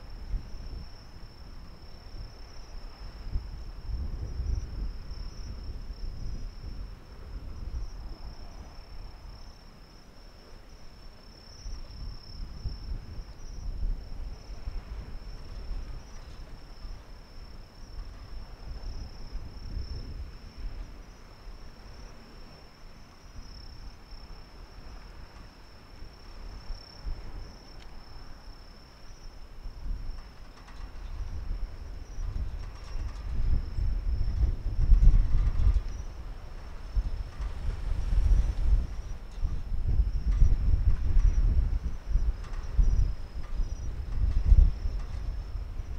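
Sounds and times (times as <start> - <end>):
shrill insect chorus: 0.0 - 45.9.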